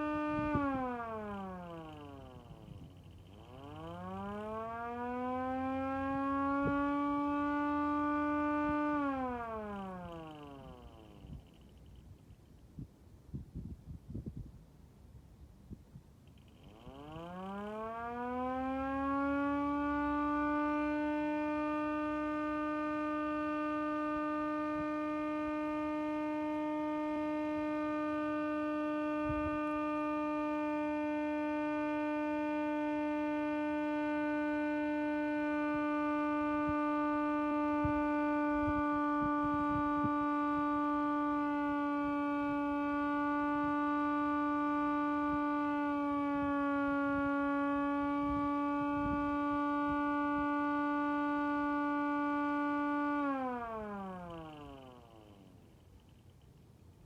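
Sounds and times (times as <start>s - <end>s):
electric motor siren steady tone: 0.0s - 14.2s, 16.0s - 57.0s.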